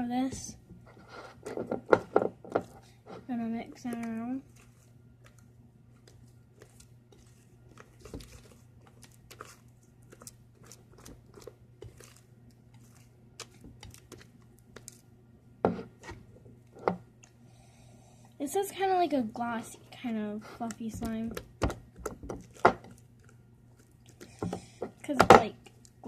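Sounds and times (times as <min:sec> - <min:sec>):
slime stirring wet crackles: 0:02.3 - 0:17.5, 0:18.8 - 0:26.0.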